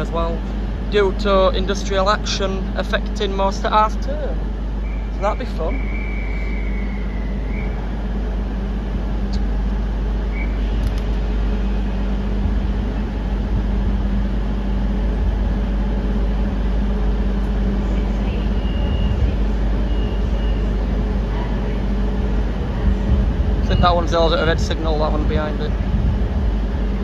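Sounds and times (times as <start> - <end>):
diesel train engine idling: 0.0 - 27.0.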